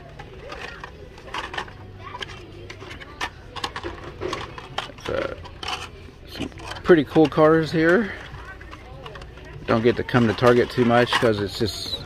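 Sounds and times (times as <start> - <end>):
indistinct voices of shoppers: 0.0 - 12.0.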